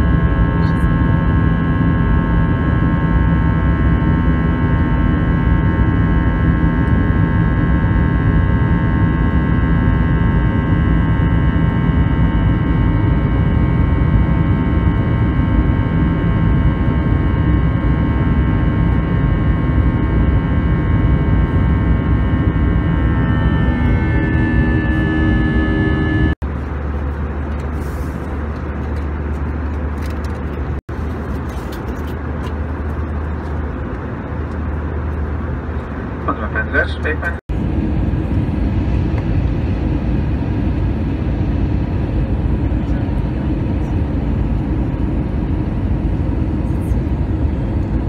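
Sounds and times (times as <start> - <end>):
jet engine and airflow rush: 0.0 - 48.0
whining engine tones: 0.0 - 48.0.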